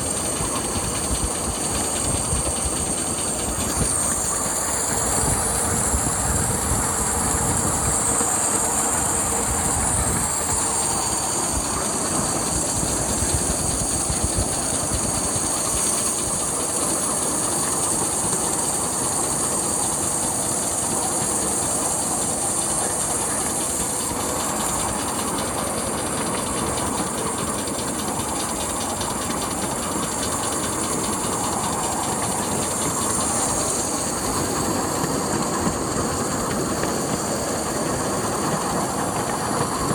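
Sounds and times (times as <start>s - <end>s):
steady hiss of steam: 0.0s - 39.9s
steam locomotive exhaust beats: 0.0s - 39.9s.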